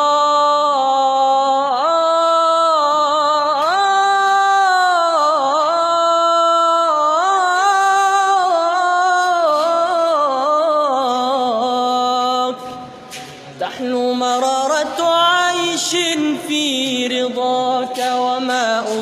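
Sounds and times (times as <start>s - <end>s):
young man singing unaccompanied: 0.0s - 12.9s, 13.6s - 19.0s.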